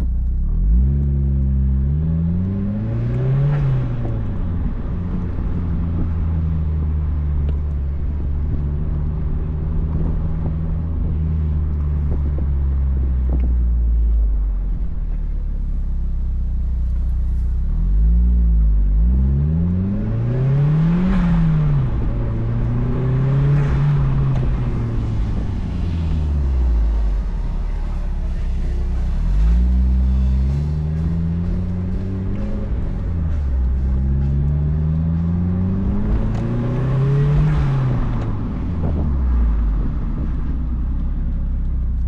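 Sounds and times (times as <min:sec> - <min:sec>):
car engine and exhaust revving: 0:00.0 - 0:42.0.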